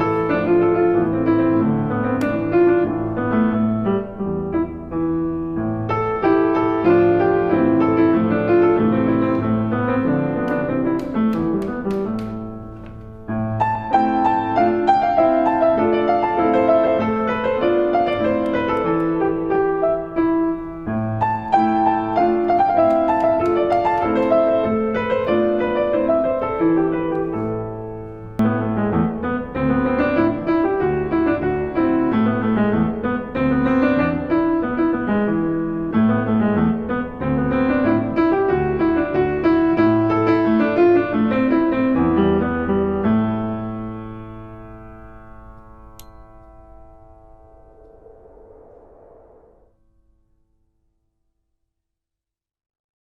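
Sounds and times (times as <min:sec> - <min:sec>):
piano music: 0:00.0 - 0:49.8.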